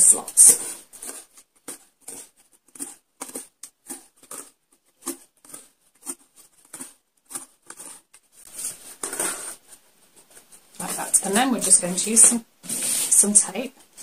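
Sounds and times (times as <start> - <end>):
scratchy rustles of thread on cardboard: 0.0 - 14.0.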